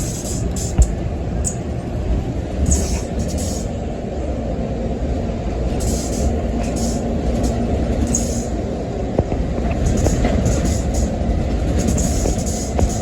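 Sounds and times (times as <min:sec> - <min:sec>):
bus engine rumble and road noise: 0:00.0 - 0:13.0.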